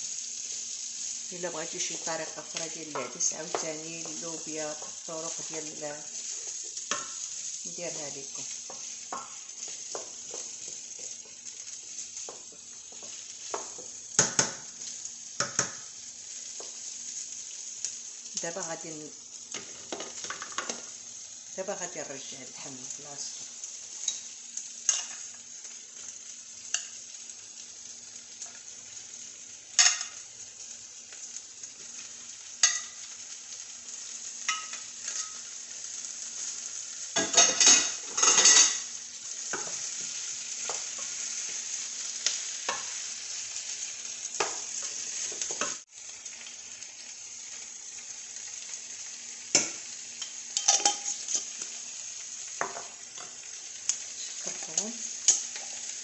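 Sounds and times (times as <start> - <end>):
meat and vegetables sizzling: 0.0 - 56.0.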